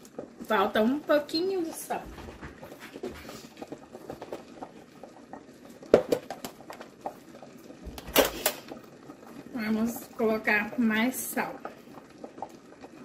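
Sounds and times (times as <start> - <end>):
soup simmering in a pot: 0.0 - 13.0.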